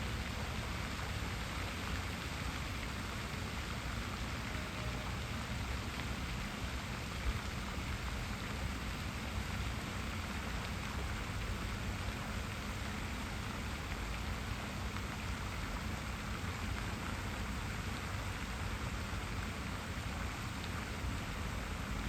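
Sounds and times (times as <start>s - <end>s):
water feature splashing: 0.0s - 22.0s.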